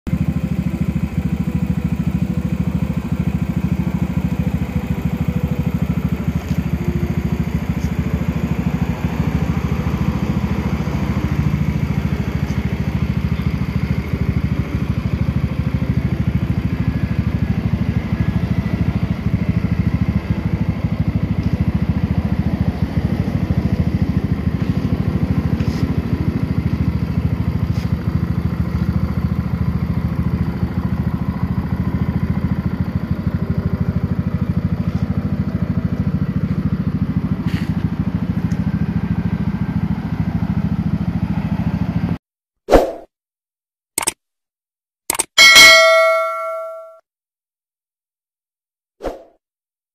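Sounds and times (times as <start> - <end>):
scooter engine idling: 0.1 - 42.2.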